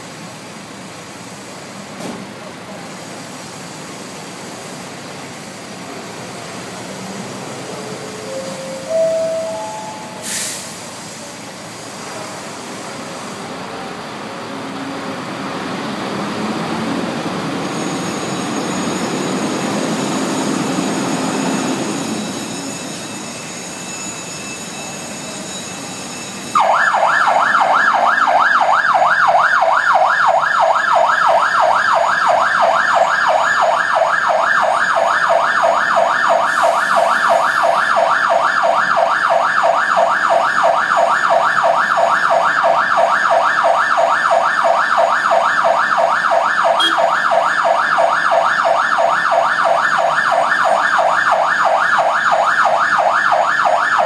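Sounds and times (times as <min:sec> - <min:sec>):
fire engine siren yelping: 0:05.7 - 0:11.7, 0:13.4 - 0:54.0.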